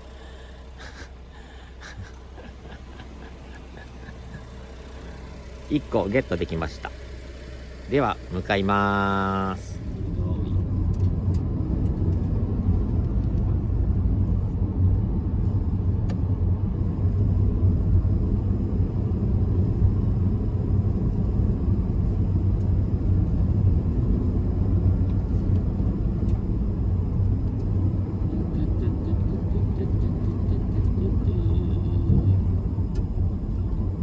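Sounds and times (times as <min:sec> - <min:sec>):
truck engine and road noise: 0:00.0 - 0:34.0.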